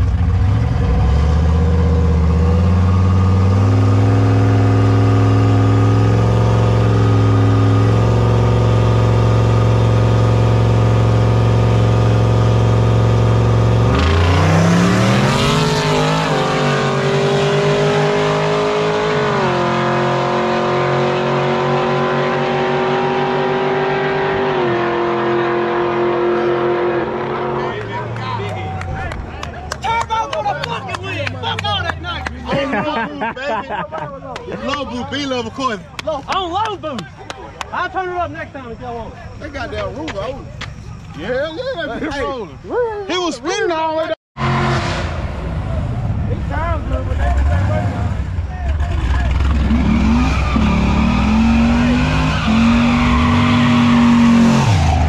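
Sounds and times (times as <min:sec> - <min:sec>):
car engines revving and accelerating: 0:00.0 - 0:37.2, 0:44.4 - 0:55.0.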